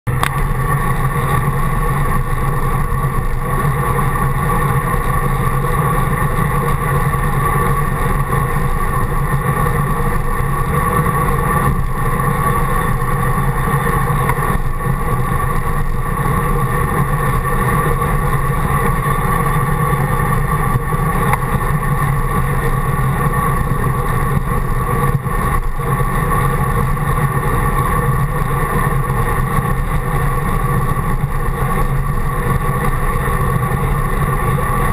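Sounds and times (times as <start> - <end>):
bike road noise: 0.1 - 34.9.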